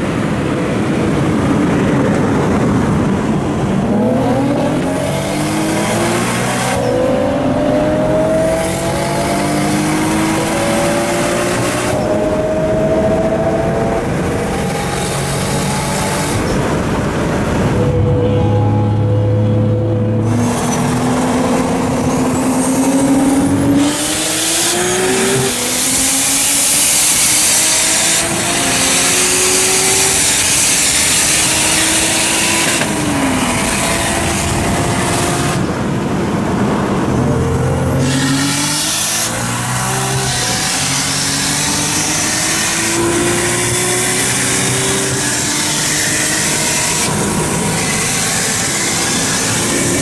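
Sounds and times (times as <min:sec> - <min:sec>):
wind and road noise: 0:00.0 - 0:50.0
sports car engine accelerating: 0:00.1 - 0:50.0.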